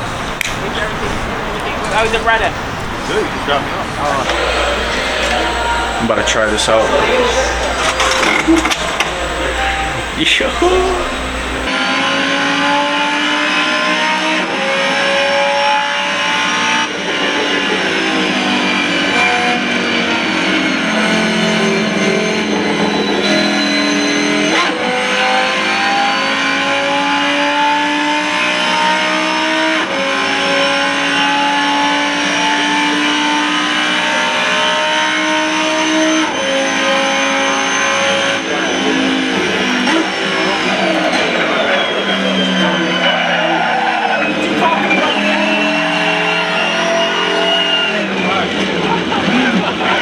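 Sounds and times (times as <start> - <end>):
racing car engine accelerating: 0.0 - 50.0.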